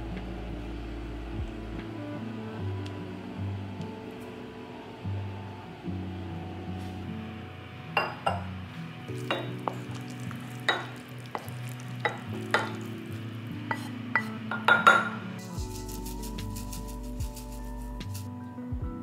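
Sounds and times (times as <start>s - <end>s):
faint sizzle: 0.0s - 18.6s
soft background music: 0.0s - 19.0s.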